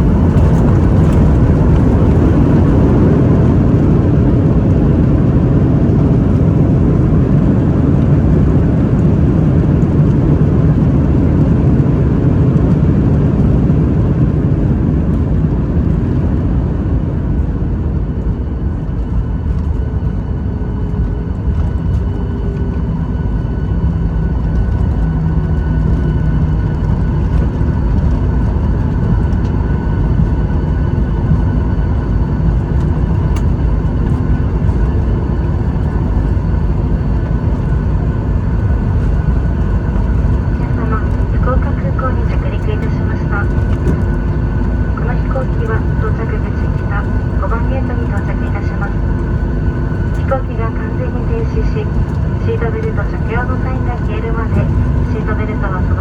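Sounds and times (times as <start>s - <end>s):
jet engine and airflow rumble: 0.0s - 56.0s.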